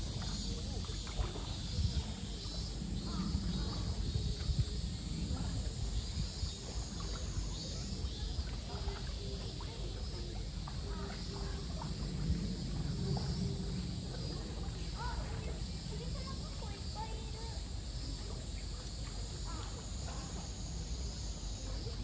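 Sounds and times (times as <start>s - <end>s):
animals wading in water: 0.0s - 22.0s
faint voices: 0.0s - 22.0s
high insect drone: 0.0s - 22.0s.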